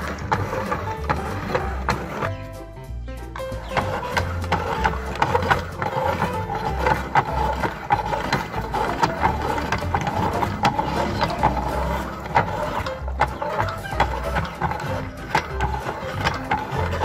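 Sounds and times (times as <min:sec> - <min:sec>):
meat grinder grinding: 0:00.0 - 0:02.4, 0:03.3 - 0:17.0.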